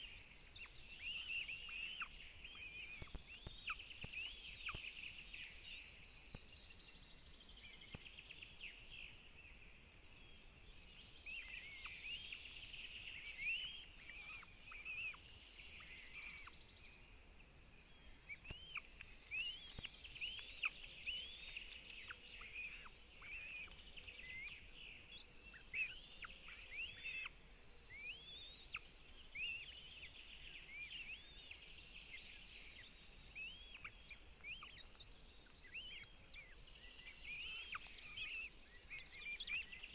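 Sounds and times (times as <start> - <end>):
birds chirping: 0.0 - 39.9
faint steady hiss: 0.0 - 39.9.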